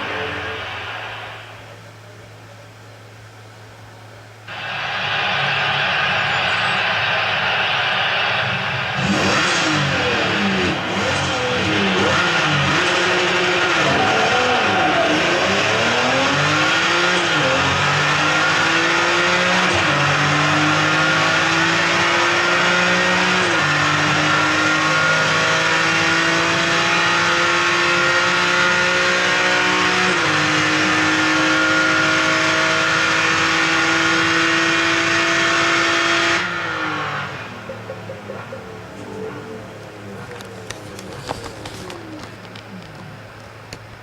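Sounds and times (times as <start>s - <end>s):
car engine accelerating through gears: 6.3s - 44.0s.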